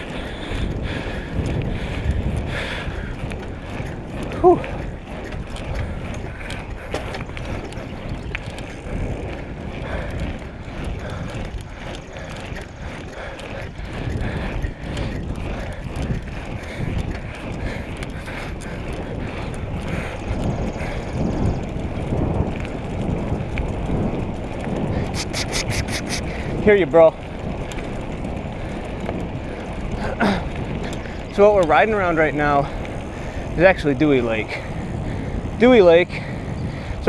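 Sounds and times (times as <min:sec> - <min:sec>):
bike ticks and rattles: 0:00.0 - 0:37.0
tyres rumbling on road: 0:00.0 - 0:37.0
wind rushing over microphone: 0:00.0 - 0:37.0.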